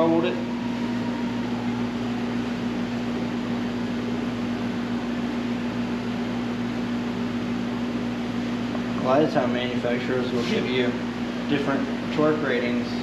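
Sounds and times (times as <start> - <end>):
electric fan motor humming: 0.0 - 13.0.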